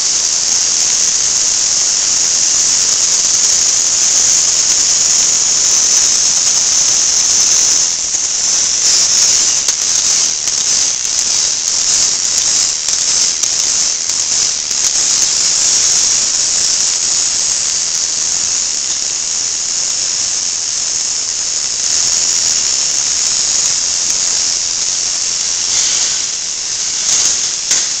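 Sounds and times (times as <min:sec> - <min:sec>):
toy roller coaster cars hissing: 0:00.0 - 0:28.0.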